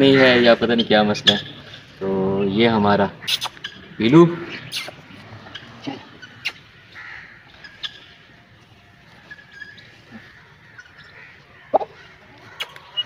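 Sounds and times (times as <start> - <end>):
birds calling faintly: 0.0 - 13.0.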